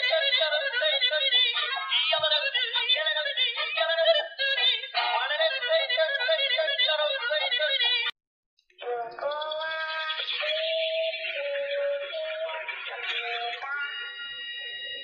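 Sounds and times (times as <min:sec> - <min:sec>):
tinny toy song with singing: 0:00.0 - 0:08.1, 0:08.7 - 0:15.0.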